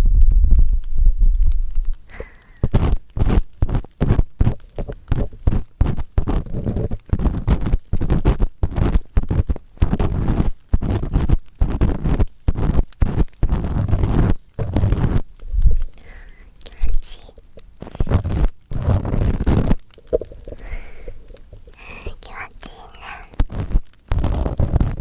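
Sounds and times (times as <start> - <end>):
deep rumble from microphone contact: 0.0 - 16.0, 17.8 - 22.4, 23.3 - 25.0
scratchy ear-cleaning strokes: 2.2 - 15.2, 16.0 - 25.0.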